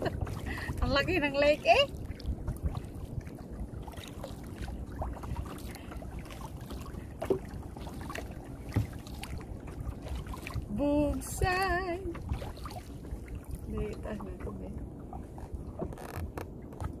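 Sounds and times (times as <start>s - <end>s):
boat being rowed with oars: 0.0s - 17.0s
wind rumbling on microphone: 0.0s - 17.0s.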